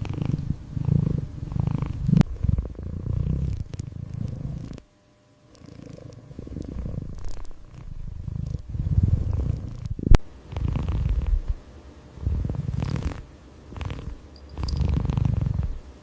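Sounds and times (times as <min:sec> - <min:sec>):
kitten purring: 0:00.0 - 0:04.8, 0:05.5 - 0:11.6, 0:12.2 - 0:15.9.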